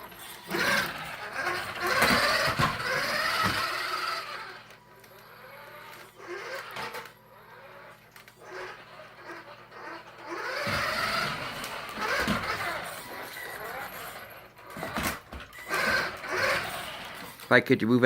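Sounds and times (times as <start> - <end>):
toy car electric motor whining: 0.0 - 17.6.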